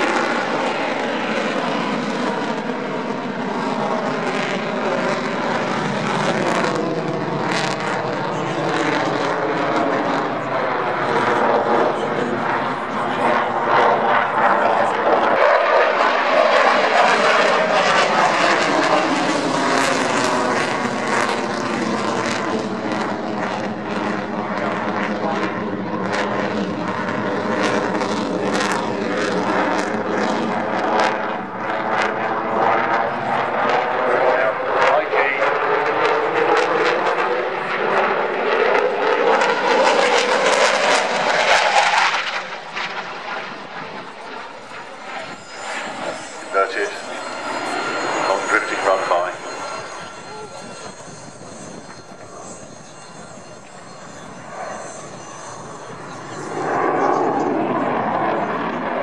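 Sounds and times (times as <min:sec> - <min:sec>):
jet engine roar overhead: 0:00.0 - 0:59.0.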